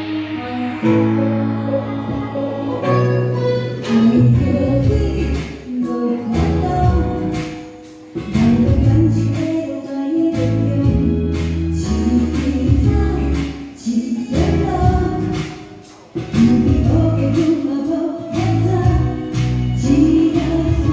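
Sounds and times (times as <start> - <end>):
backing track with guitar: 0.0 - 20.9
woman singing into a microphone: 0.0 - 20.9.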